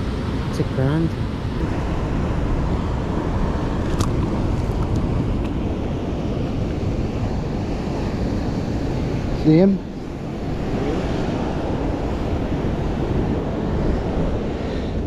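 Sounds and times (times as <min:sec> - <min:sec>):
rough surf rushing: 0:00.0 - 0:15.0
wind noise on microphone: 0:00.0 - 0:15.0.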